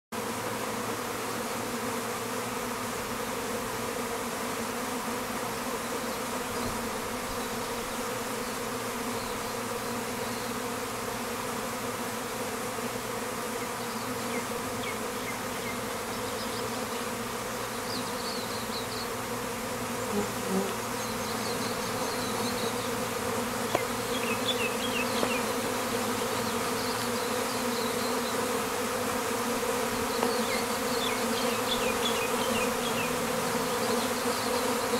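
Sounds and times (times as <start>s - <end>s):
bees buzzing: 0.2s - 34.9s.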